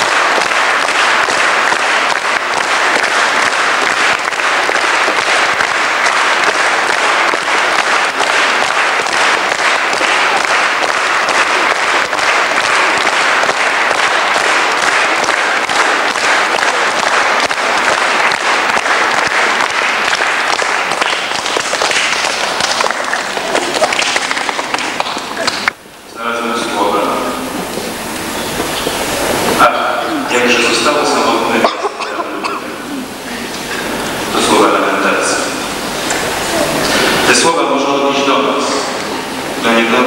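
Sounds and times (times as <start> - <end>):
crowd applauding: 0.0 - 40.0.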